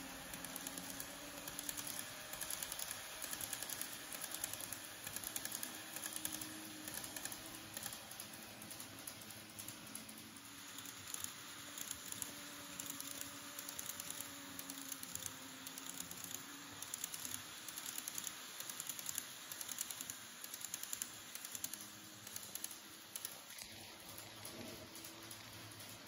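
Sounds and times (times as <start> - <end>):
model train wheels clicking: 0.0 - 26.0.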